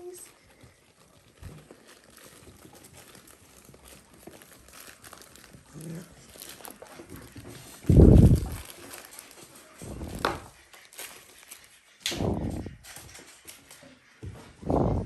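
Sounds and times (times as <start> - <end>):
puppies rustling: 0.0 - 15.0.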